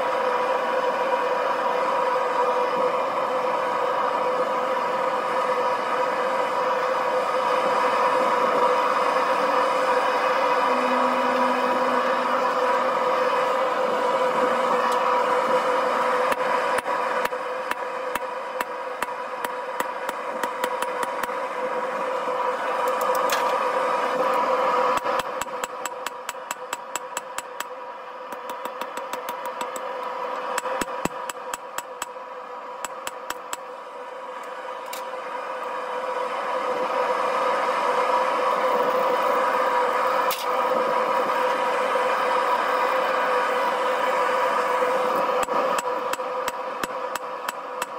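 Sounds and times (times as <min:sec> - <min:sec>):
forge burner roaring: 0:00.0 - 0:47.9.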